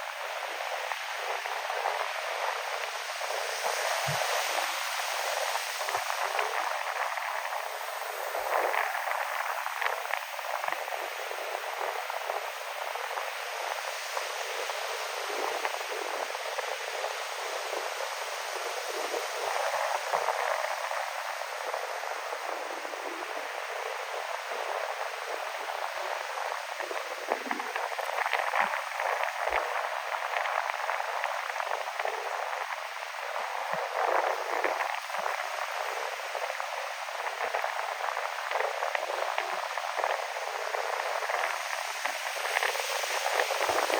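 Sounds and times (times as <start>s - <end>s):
strong wind: 0.0s - 43.9s.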